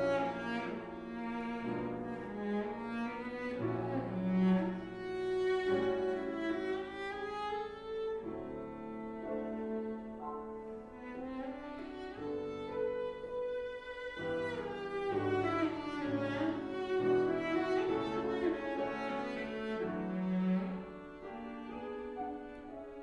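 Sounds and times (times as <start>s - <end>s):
cello melody: 0.0s - 23.0s
piano accompaniment: 0.0s - 23.0s.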